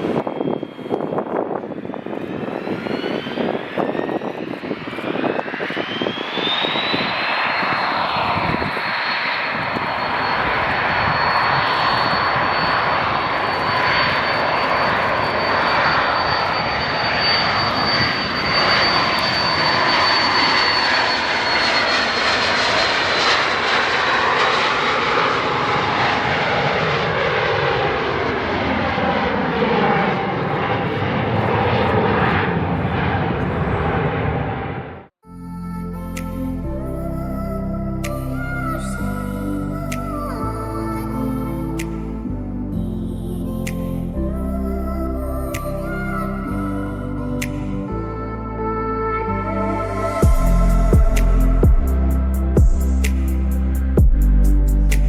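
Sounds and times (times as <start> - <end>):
airliner engines whining: 0.0 - 35.4, 36.0 - 55.0.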